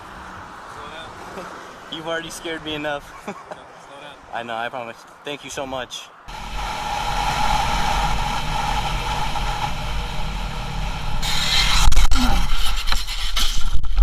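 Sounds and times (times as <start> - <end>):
vehicle rumble with road noise: 0.0 - 14.0.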